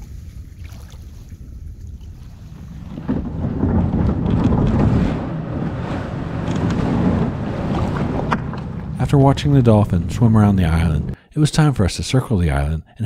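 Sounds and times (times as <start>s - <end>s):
water sloshing around kayak: 0.0s - 11.2s
wind rumbling on microphone: 0.0s - 11.2s.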